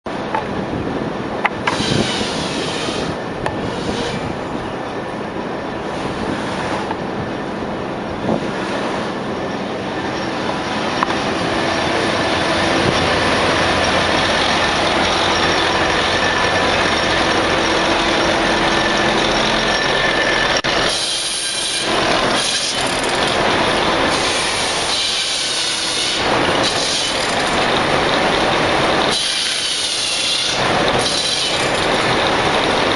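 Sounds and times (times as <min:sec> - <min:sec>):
mill machinery rattling and humming: 0:00.1 - 0:32.9.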